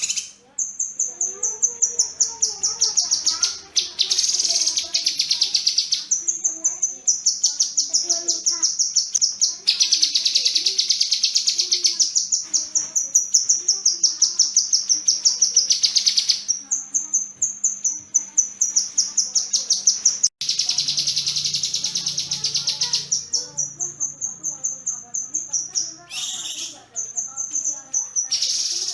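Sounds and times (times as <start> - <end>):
bird singing trills: 0.0 - 28.9.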